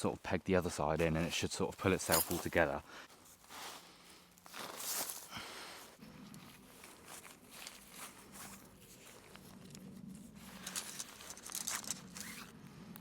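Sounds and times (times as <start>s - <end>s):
scuffing on dry twigs and leaves: 1.0s - 12.1s
tent fabric rustling and crinkling: 1.0s - 12.6s.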